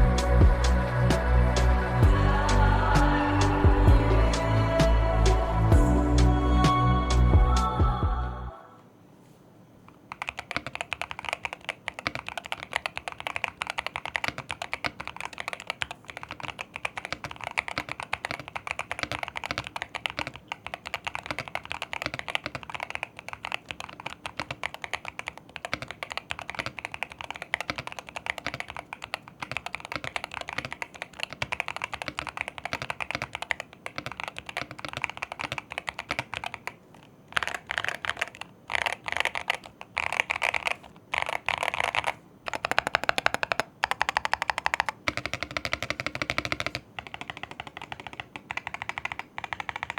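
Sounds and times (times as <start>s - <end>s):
fast keyboard typing: 9.9s - 49.9s.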